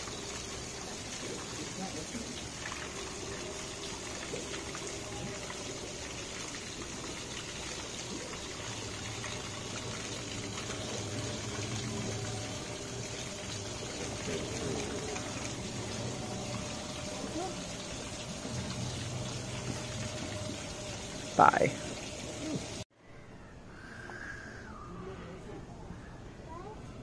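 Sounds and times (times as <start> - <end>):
fountain water splashing: 0.0 - 22.8.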